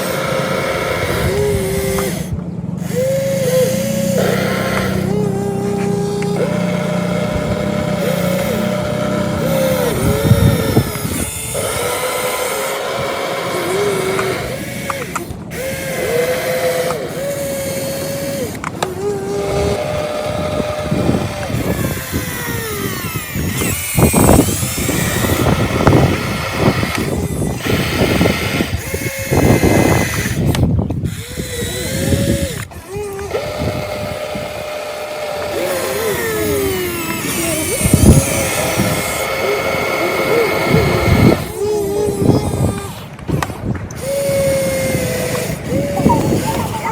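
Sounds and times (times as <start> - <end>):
gritty mechanical rattle: 0.0 - 46.9
small electric motors whining: 0.0 - 46.9.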